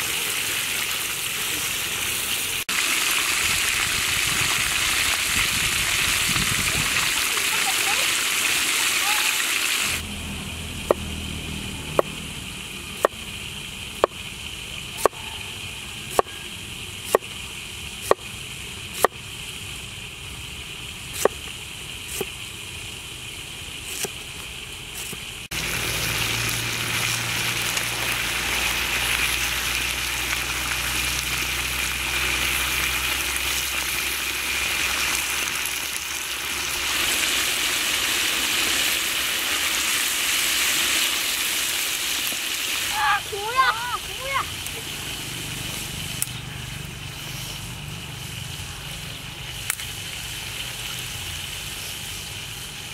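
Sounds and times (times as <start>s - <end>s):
fish deep-frying in oil: 0.0s - 52.9s.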